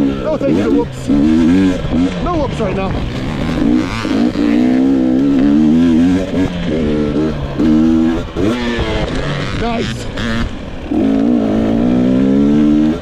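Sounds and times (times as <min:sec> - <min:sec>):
dirt bike engine under throttle: 0:00.0 - 0:13.0.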